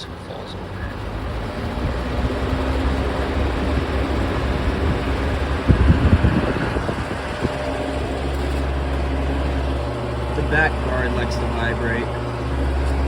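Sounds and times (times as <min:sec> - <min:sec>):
box fan running: 0:00.0 - 0:13.0
low-pitched surges: 0:00.6 - 0:13.0.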